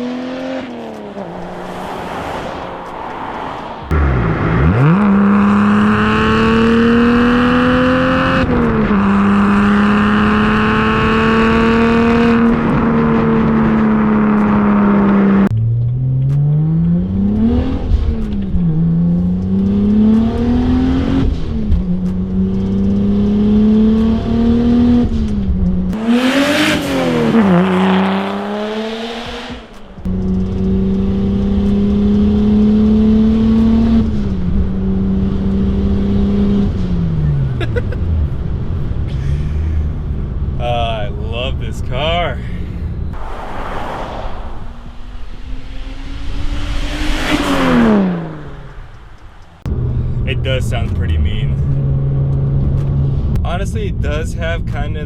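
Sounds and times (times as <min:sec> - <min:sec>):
car engine droning and revving: 0:00.0 - 0:55.0.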